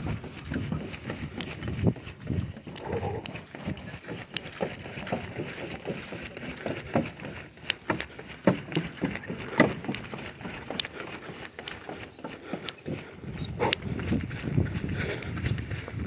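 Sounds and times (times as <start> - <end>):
footsteps on wooden stairs: 0.0 - 16.0.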